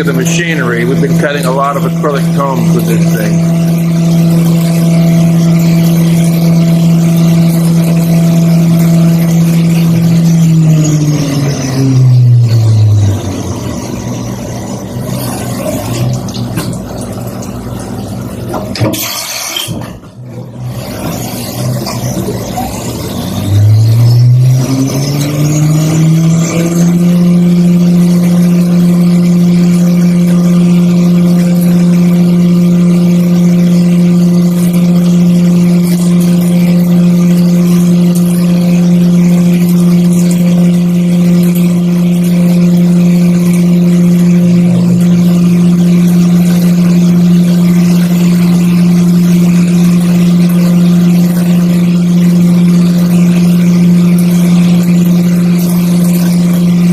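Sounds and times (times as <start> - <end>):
milling machine spindle whine: 0.0 - 18.8, 20.5 - 56.9.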